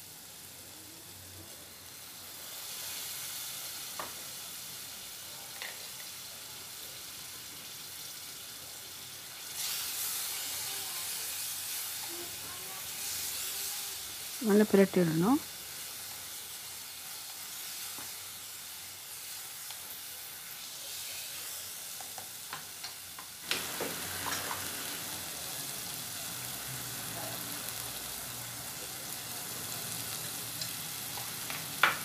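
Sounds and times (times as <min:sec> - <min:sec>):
food sizzling in a pot: 0:00.0 - 0:32.0.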